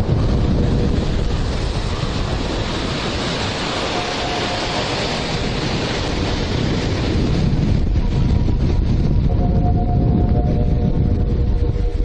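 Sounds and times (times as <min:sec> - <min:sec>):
surf breaking on shore: 0:00.0 - 0:10.6
wind rumbling on microphone: 0:00.0 - 0:12.0.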